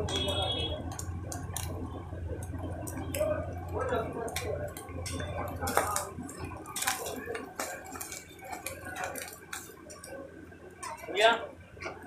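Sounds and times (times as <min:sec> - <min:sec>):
food frying on griddle: 0:00.0 - 0:12.0.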